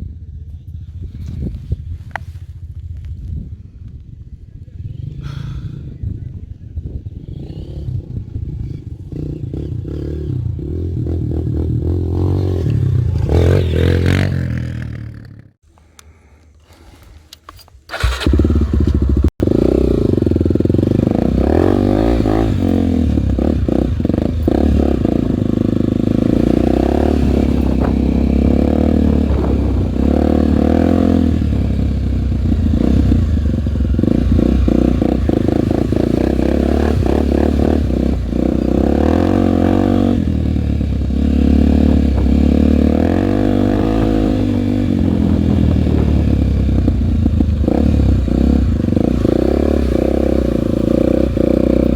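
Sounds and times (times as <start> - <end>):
dirt bike engine revving: 7.1 - 15.6, 17.9 - 51.9.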